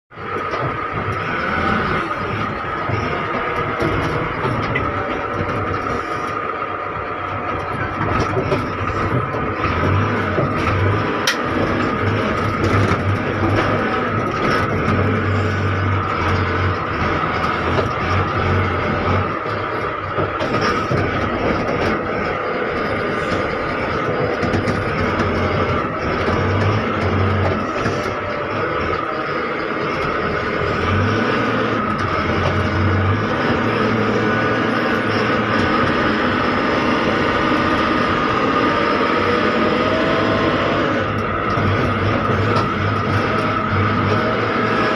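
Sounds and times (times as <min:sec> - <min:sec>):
diesel engine of heavy machinery: 0:00.1 - 0:44.9
low pulsing drone: 0:00.1 - 0:44.9.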